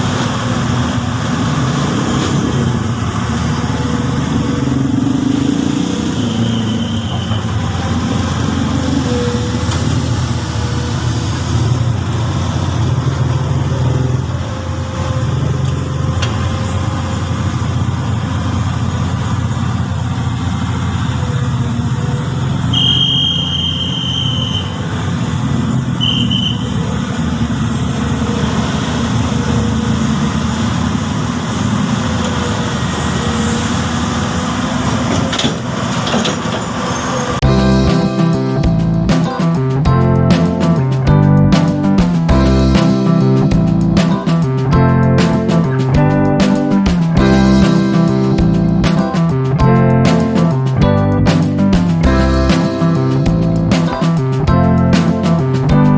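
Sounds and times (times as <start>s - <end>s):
excavator diesel engine droning: 0.0s - 35.8s, 36.6s - 55.9s.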